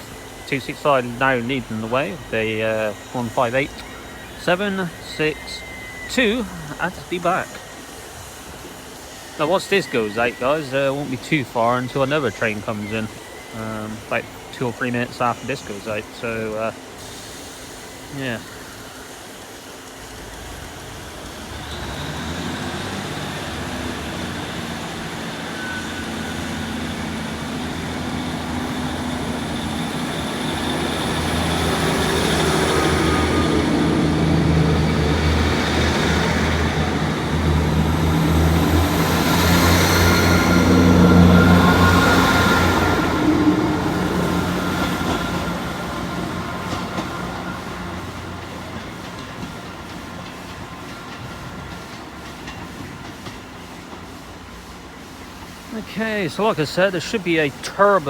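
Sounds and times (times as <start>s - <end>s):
train diesel engines droning: 0.0s - 58.0s.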